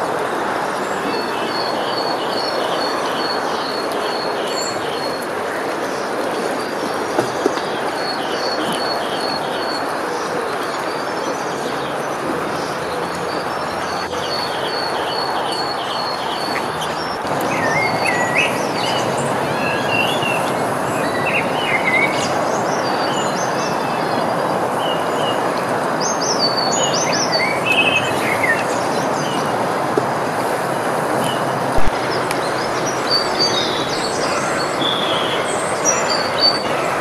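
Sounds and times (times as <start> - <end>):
waterfall rushing over weir: 0.0 - 37.0.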